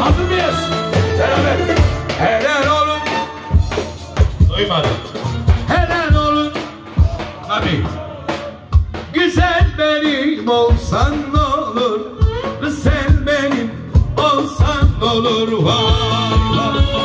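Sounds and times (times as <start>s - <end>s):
string instruments melody: 0.0s - 9.6s, 10.9s - 17.0s
darbuka beat: 0.0s - 17.0s
ornamented melody from voice: 0.0s - 17.0s.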